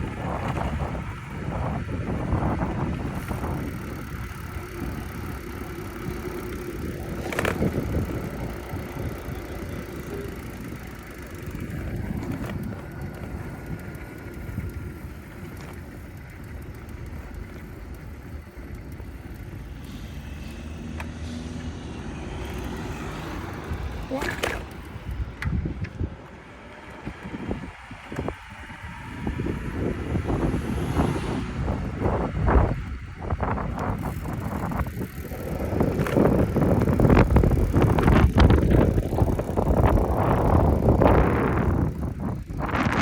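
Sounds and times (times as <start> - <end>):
tyre and wind rumble: 0.0 - 43.0.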